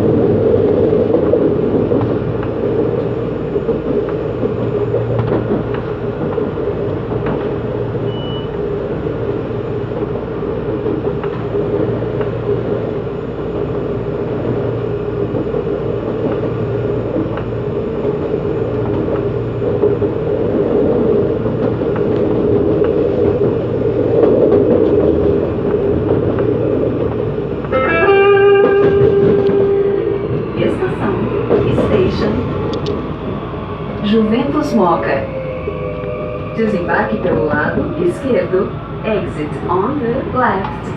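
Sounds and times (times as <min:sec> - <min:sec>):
traction motor drone: 0:00.0 - 0:40.9
train wheels rumbling on track: 0:00.0 - 0:40.9.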